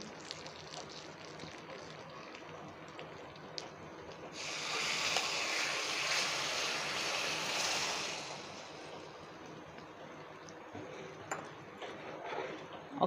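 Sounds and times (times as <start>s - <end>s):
liquid sizzling in hot pan: 0.0s - 10.5s.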